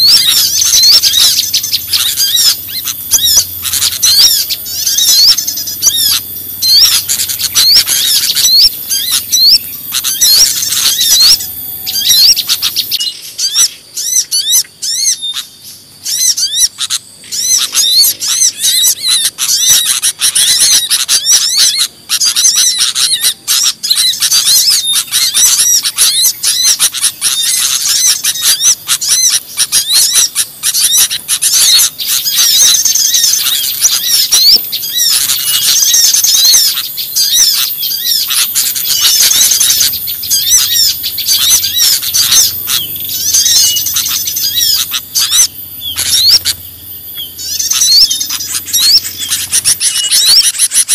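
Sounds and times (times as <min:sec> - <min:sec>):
small songbirds chirping: 0:00.0 - 0:50.9.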